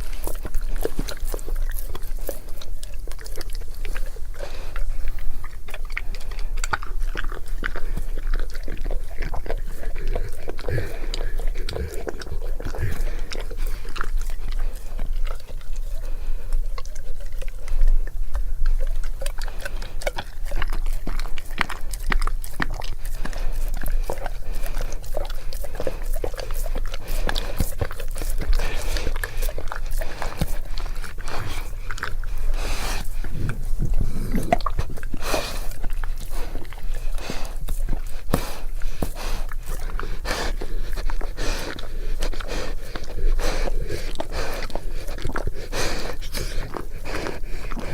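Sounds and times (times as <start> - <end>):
dog chewing and mouth smacks: 0.0 - 47.9.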